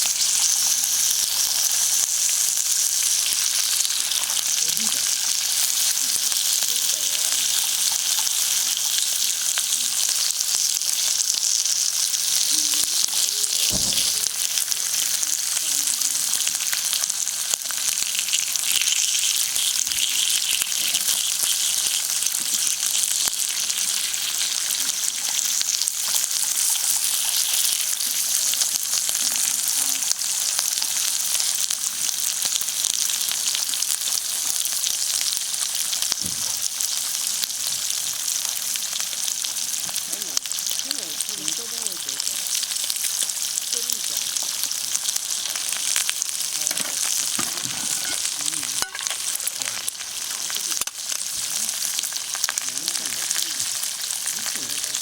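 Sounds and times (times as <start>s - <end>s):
steak sizzling on hot stones: 0.0s - 55.0s.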